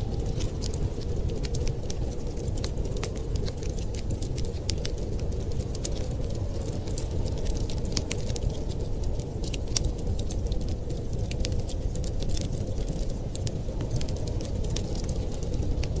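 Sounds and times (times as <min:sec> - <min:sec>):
blizzard wind rumbling: 0:00.0 - 0:16.0
wood fire crackling: 0:00.0 - 0:16.0.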